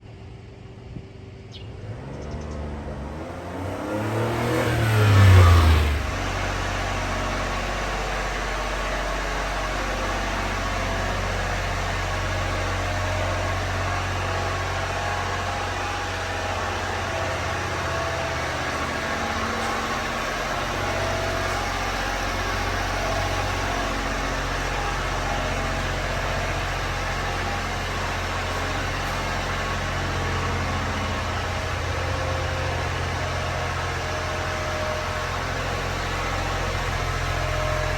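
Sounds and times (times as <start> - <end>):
small truck engine revving and idling: 0.0 - 37.9.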